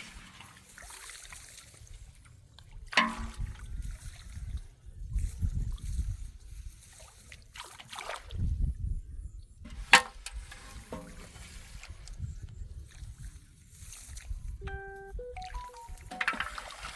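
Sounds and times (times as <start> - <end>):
water sloshing and trickling: 0.0 - 8.8, 9.7 - 14.5, 15.5 - 16.9.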